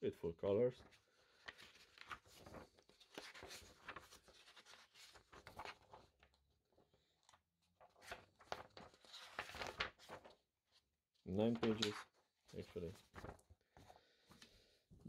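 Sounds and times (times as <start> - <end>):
paper pages rustling: 0.8 - 10.4, 11.3 - 14.6.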